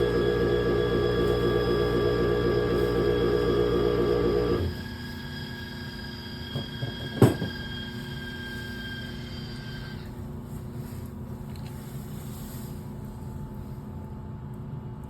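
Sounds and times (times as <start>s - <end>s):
furnace humming: 0.0s - 15.0s.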